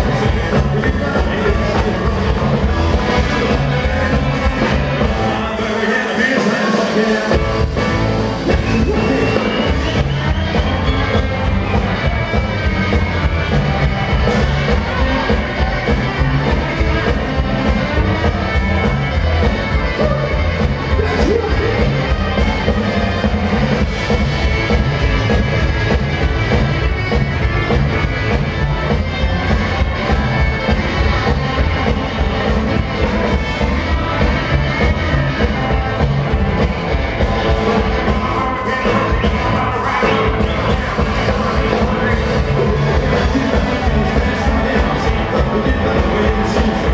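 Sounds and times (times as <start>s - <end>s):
rockabilly band playing live: 0.0s - 46.9s.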